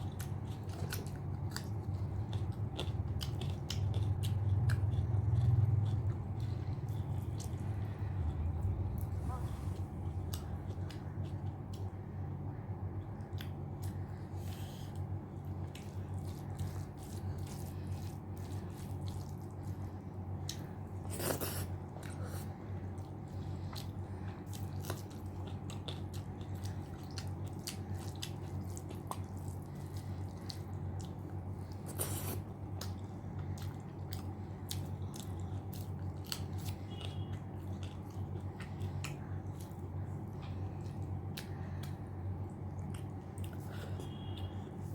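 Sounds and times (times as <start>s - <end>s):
person chewing food: 0.0s - 44.9s
low hum: 0.1s - 44.9s.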